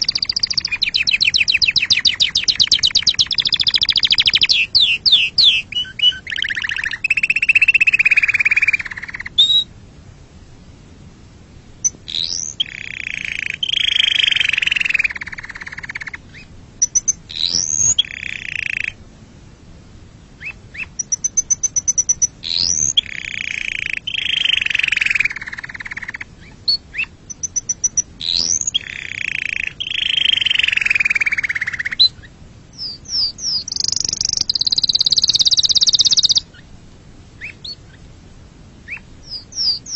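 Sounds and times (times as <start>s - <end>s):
canary singing trills: 0.0s - 9.7s, 11.8s - 19.0s, 20.4s - 36.7s, 37.4s - 38.1s, 38.8s - 39.9s.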